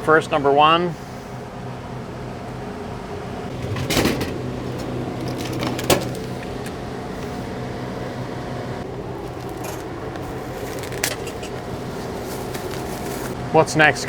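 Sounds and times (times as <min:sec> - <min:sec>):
vending machine humming: 0:00.0 - 0:14.0.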